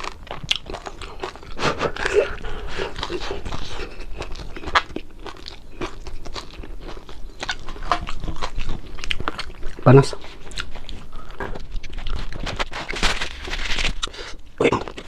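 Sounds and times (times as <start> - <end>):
fried fish crunching: 0.0 - 15.0.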